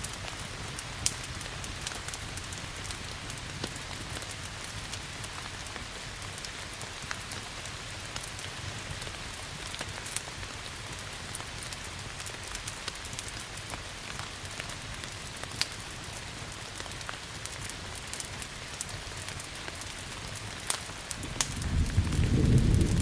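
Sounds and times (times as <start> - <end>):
steady rain hiss: 0.0 - 23.0
wood fire crackling: 0.0 - 23.0.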